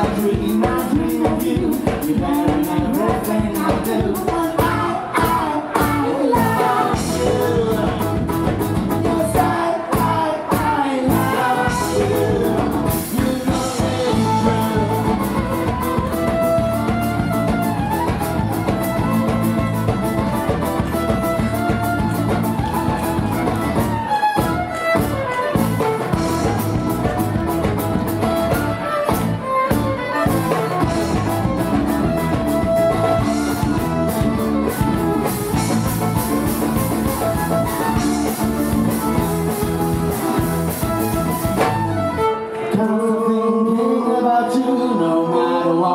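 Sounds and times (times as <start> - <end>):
folk rock band playing: 0.0 - 43.2
guitar: 0.0 - 45.9.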